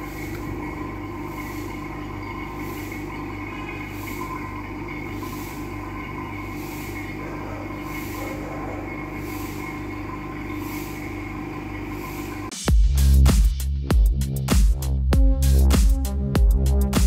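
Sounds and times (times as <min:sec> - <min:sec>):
machine mechanical hum: 0:00.0 - 0:17.0.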